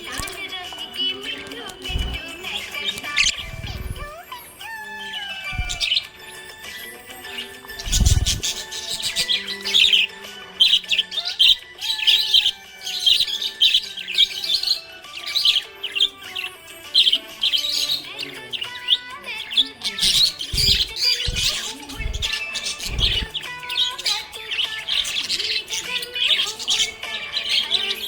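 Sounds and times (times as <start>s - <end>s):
background music: 0.0s - 28.0s
budgerigar chirping: 1.2s - 28.0s.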